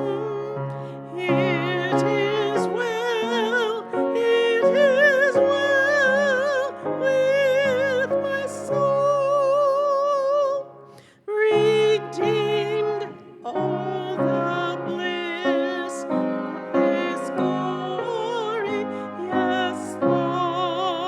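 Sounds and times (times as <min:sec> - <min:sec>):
slow hymn-like music: 0:00.0 - 0:21.0.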